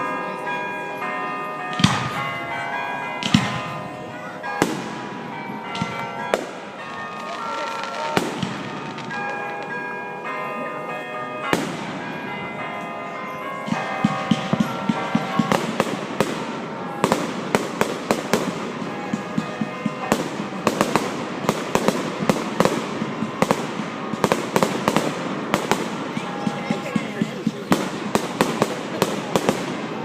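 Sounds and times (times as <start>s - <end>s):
fireworks bangs and crackles: 1.7s - 10.4s, 11.4s - 12.7s, 13.6s - 30.0s.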